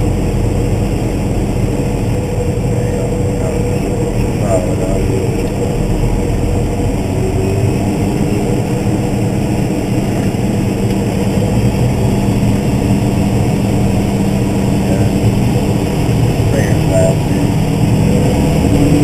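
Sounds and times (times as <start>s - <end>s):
tractor diesel engine droning: 0.0s - 19.0s.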